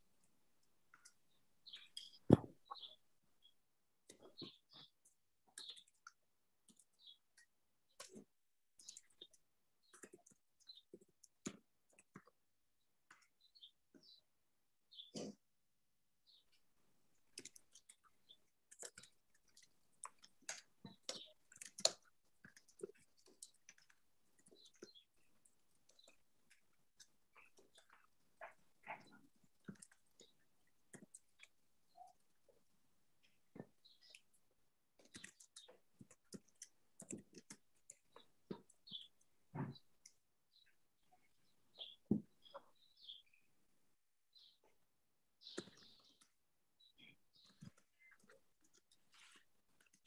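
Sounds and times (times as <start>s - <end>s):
faint clicks and crackles: 4.0s - 14.2s, 16.3s - 43.4s, 45.4s - 50.0s.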